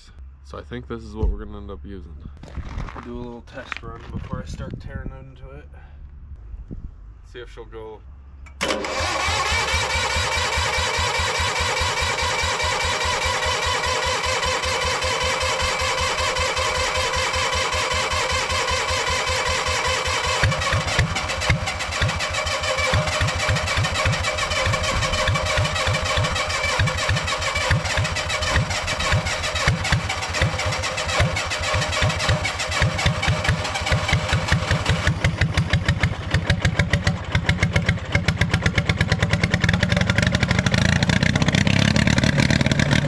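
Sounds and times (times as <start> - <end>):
generator engine running: 8.4 - 43.0.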